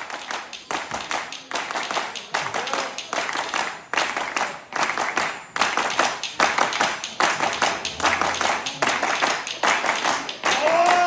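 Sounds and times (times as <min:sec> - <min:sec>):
rhythmic hand-clapping: 0:00.0 - 0:11.0.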